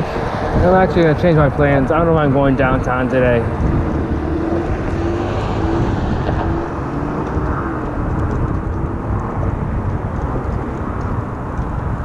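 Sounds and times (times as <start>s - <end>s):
road traffic noise: 0.0s - 12.0s
wind rumbling on microphone: 0.0s - 12.0s.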